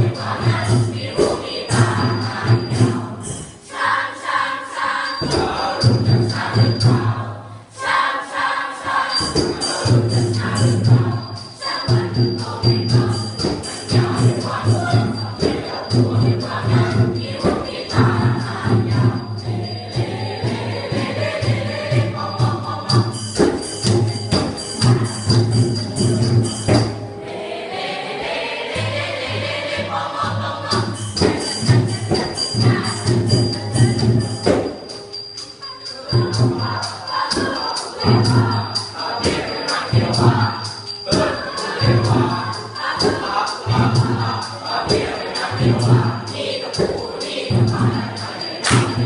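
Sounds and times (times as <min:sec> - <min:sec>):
choir singing in parts: 0:00.0 - 0:49.0
sharp percussive strikes: 0:00.0 - 0:49.0.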